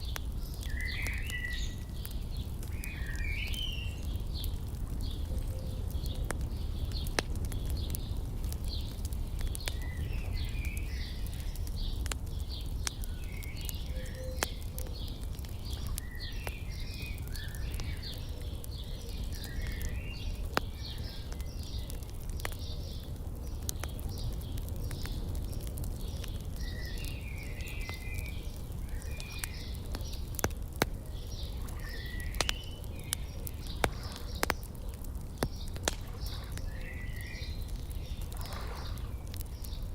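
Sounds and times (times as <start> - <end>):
small birds chirping: 0.0 - 39.9
wood fire crackling and popping: 0.0 - 39.9.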